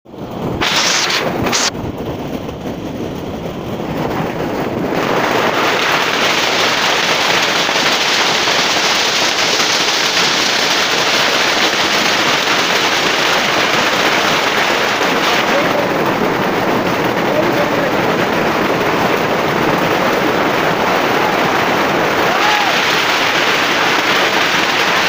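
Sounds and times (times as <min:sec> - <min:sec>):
hail pelting tin roofs: 0:00.2 - 0:25.0.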